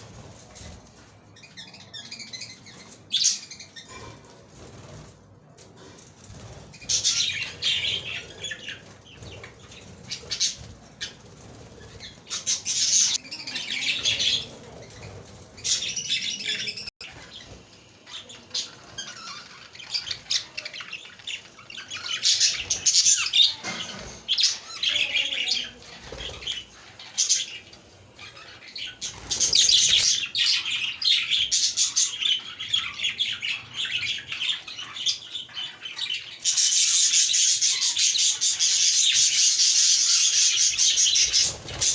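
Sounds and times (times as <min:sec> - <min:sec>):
budgerigars chirping and warbling: 0:00.1 - 0:05.1, 0:05.8 - 0:41.9.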